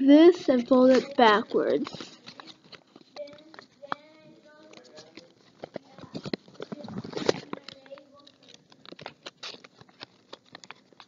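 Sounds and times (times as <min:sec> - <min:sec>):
paper folding and crackling: 0:00.0 - 0:11.0.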